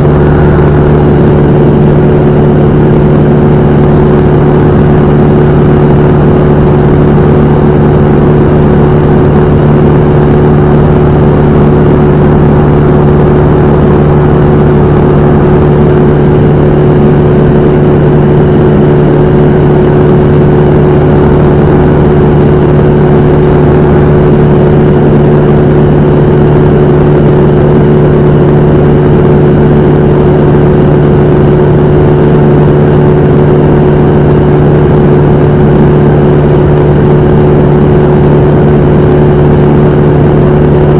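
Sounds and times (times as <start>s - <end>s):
propeller plane engine humming: 0.0s - 40.9s.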